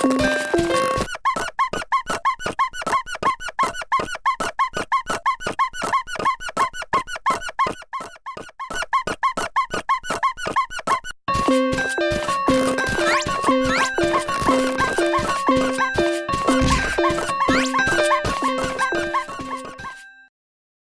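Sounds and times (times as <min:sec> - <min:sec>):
cartoon squeaky chirps: 0:00.0 - 0:11.2, 0:12.5 - 0:20.0.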